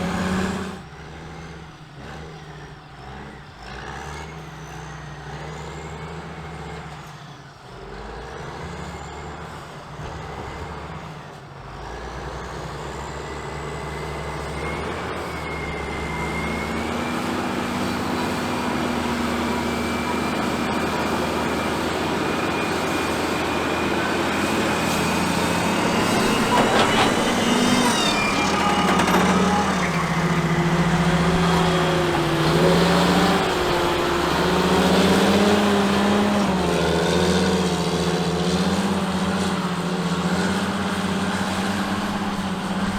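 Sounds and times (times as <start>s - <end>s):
diesel engines running: 0.0s - 42.9s.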